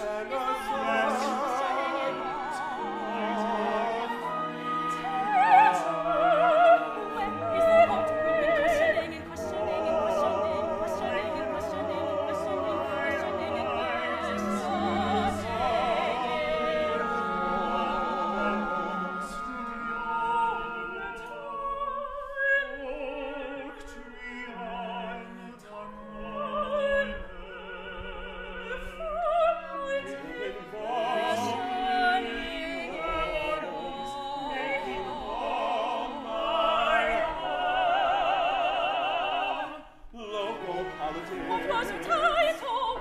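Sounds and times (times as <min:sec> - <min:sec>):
operatic singing: 0:00.0 - 0:43.0.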